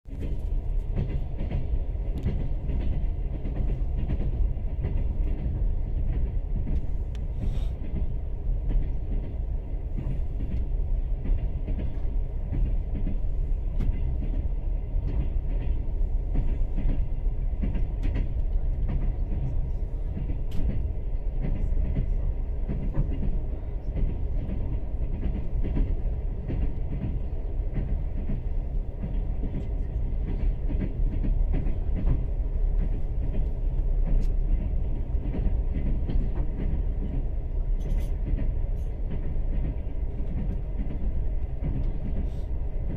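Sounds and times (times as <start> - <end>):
train wheels rumbling on rails: 0.0 - 42.9
rail joint clacks: 0.1 - 42.9.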